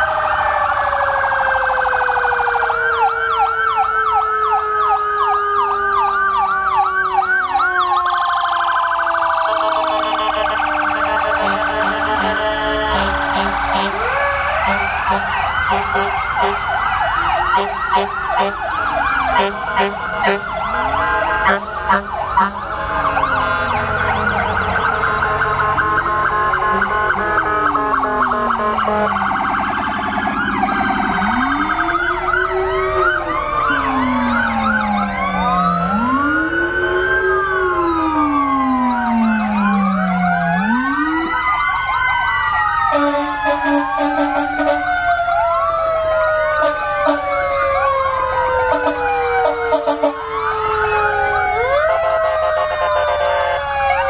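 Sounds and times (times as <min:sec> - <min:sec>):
deep siren rising and falling: 0:00.0 - 0:54.0
fire engine sirens wailing and yelping: 0:00.0 - 0:54.0.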